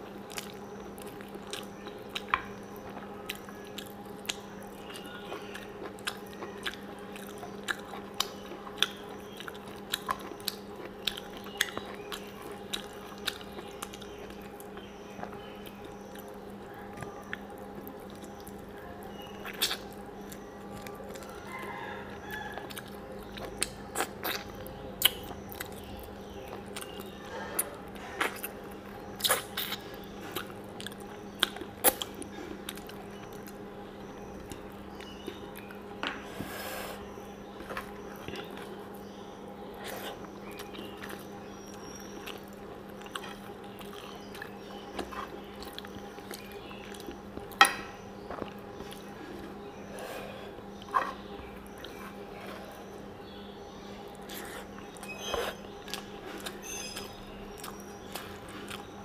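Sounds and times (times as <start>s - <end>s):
chewing with wet lip smacks: 0.0s - 36.0s, 37.0s - 59.0s
steady low hum: 0.0s - 59.0s.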